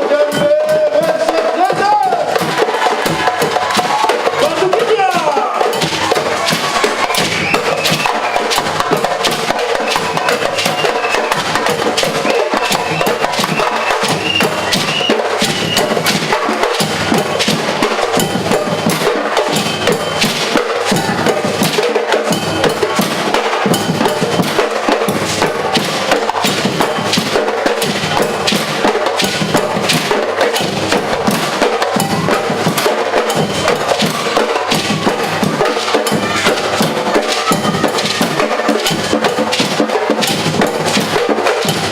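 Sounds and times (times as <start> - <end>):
percussion ensemble drumming: 0.0 - 41.9
woodblock strikes: 0.0 - 41.9.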